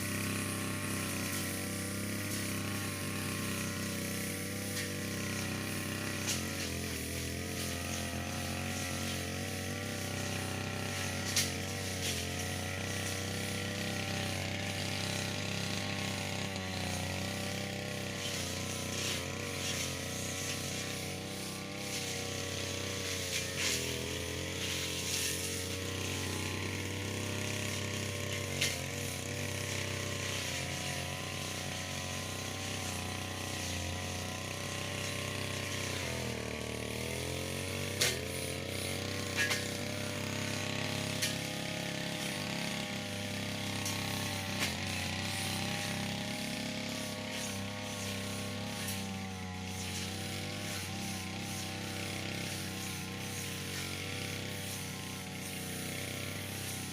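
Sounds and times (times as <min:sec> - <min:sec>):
brush cutter engine cutting grass: 0:00.0 - 0:56.9.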